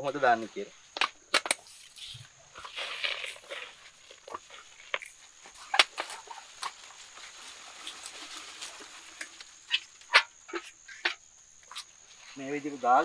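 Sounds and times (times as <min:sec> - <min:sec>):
patter of falling soil: 0:00.0 - 0:13.0.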